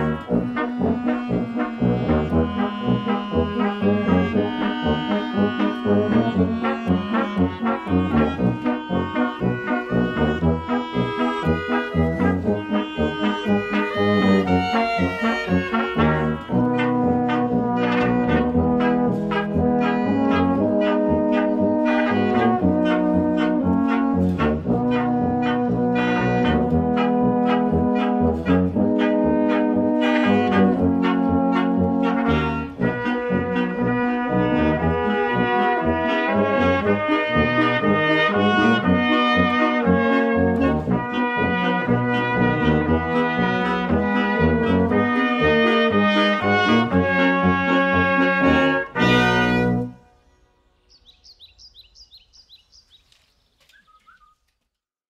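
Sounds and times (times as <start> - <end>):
brass band music: 0.0 - 50.6.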